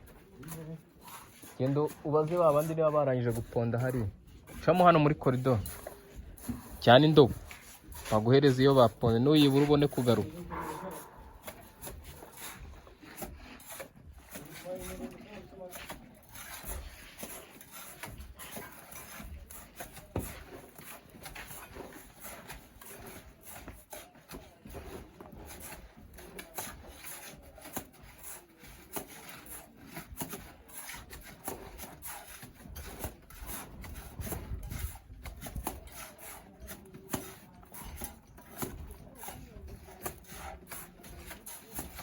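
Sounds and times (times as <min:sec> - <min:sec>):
trowel scraping mortar: 0:00.0 - 0:42.0.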